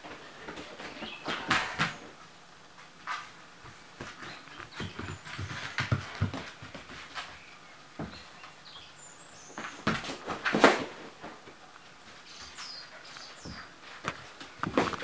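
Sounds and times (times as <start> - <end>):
dogs scuffling on wooden floor: 0.0 - 15.0.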